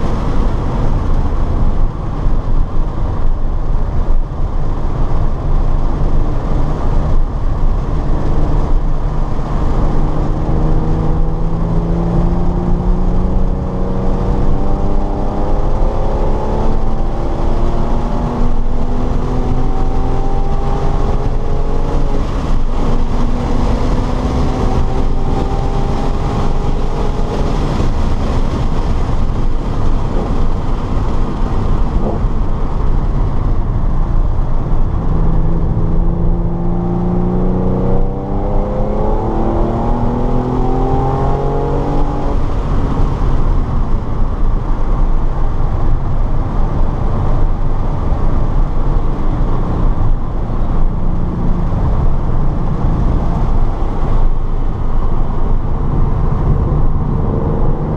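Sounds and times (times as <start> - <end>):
car engine at full throttle: 0.0 - 57.9
road and wind noise rumble: 0.0 - 57.9.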